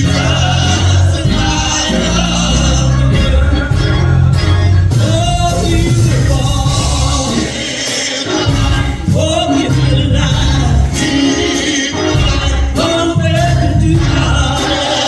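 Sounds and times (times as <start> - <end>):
band with heavy bass line: 0.0 - 15.0
gospel singing voices: 0.0 - 15.0.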